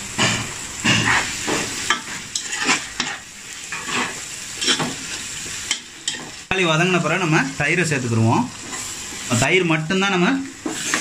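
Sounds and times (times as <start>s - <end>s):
sizzling in oil: 0.0s - 11.0s.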